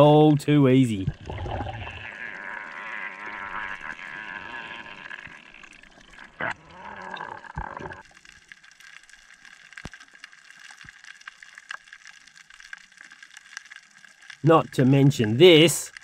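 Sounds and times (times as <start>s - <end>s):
crackling clicks: 1.1s - 16.0s.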